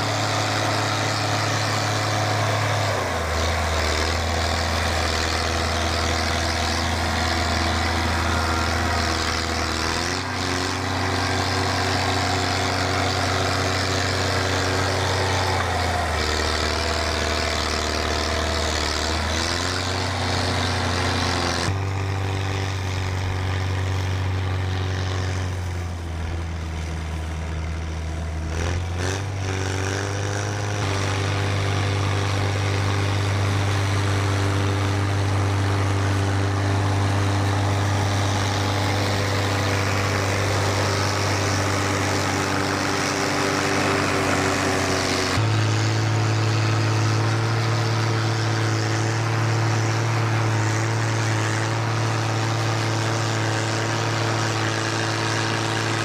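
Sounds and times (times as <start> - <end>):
snowcat diesel engine running: 0.0 - 56.0.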